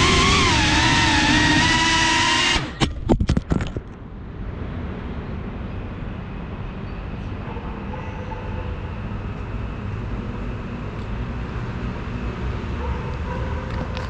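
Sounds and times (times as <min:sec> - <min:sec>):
city traffic rumble: 0:02.5 - 0:14.0.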